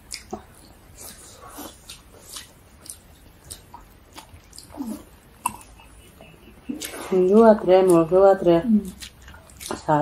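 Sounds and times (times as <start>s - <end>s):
people chewing and lip smacking: 0.0s - 10.0s.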